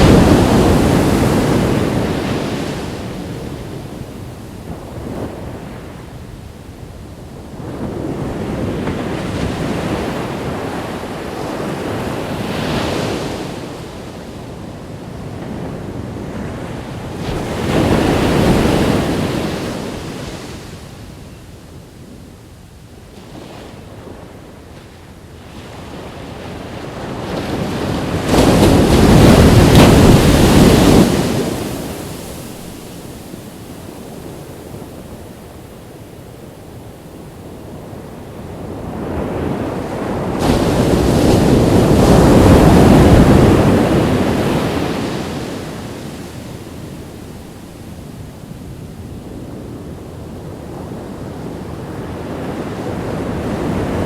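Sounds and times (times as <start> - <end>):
ocean waves crashing: 0.0 - 6.8, 7.5 - 14.3, 15.1 - 21.0, 25.4 - 49.2
wind rumbling on microphone: 0.0 - 54.0.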